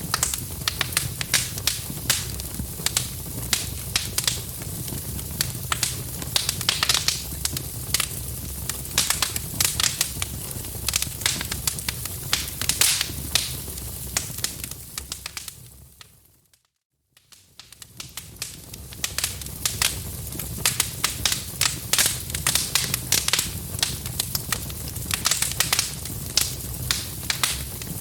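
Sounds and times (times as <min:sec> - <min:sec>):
fire low rumble: 0:00.0 - 0:16.0, 0:17.5 - 0:28.0
wood fire crackling and popping: 0:00.0 - 0:16.6, 0:17.2 - 0:28.0.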